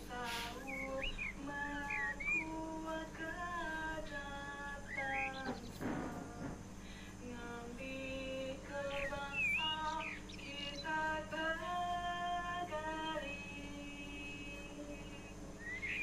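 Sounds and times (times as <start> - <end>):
woman singing slow melody: 0.0 - 16.0.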